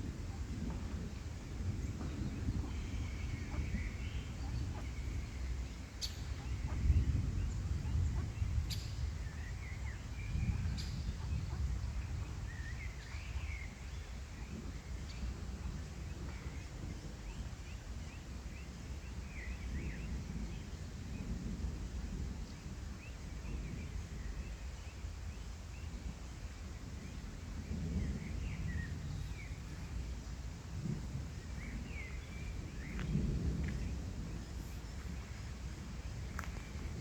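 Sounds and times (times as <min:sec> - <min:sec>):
steady low rumble: 0:00.0 - 0:22.6, 0:23.3 - 0:37.0.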